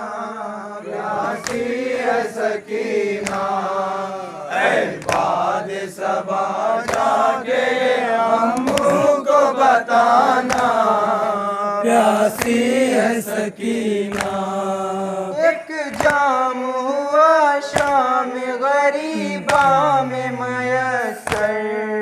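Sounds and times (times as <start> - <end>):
crowd chanting: 0.0 - 16.2, 17.7 - 21.6.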